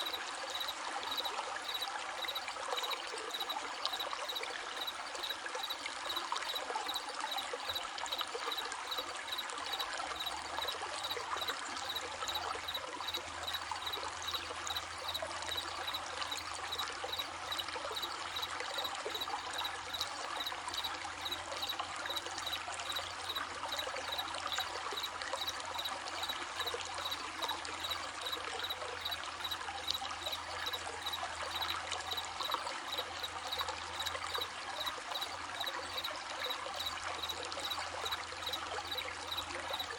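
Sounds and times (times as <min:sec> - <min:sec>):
crickets chirping: 0:00.0 - 0:39.9
stream babbling: 0:00.0 - 0:39.9.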